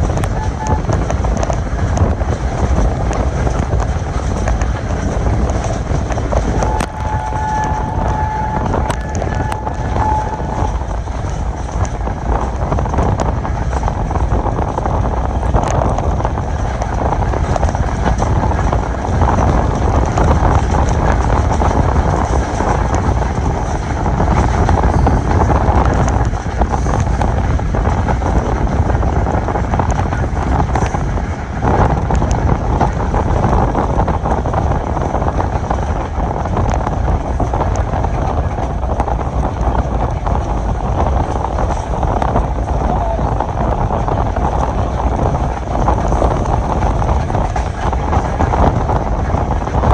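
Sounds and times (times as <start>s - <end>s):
train rumbling on track: 0.0s - 49.9s
wind buffeting microphone: 0.0s - 49.9s.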